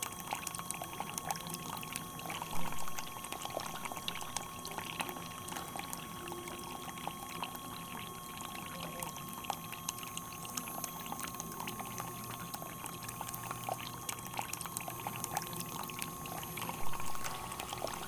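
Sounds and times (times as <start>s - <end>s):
electric pump whine: 0.0s - 18.0s
small water splashes: 0.0s - 18.0s
water pouring into a tank: 0.0s - 18.0s.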